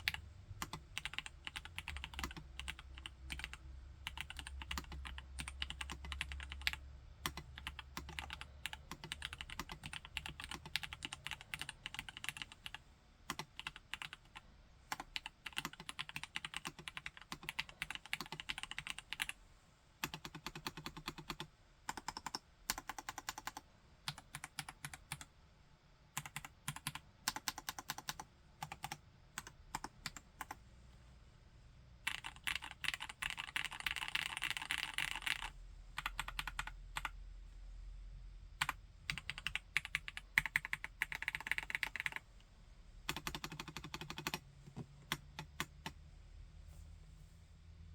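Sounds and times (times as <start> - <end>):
mechanical keyboard typing: 0.0 - 19.4, 20.0 - 25.3, 26.2 - 30.6, 32.0 - 37.2, 38.6 - 42.2, 43.1 - 44.4.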